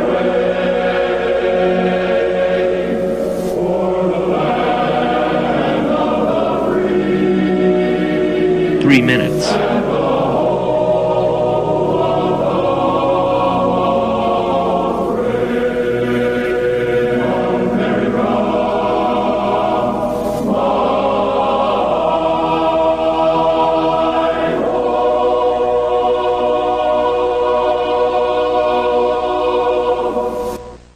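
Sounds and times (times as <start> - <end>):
choir singing sustained chords: 0.0 - 30.7.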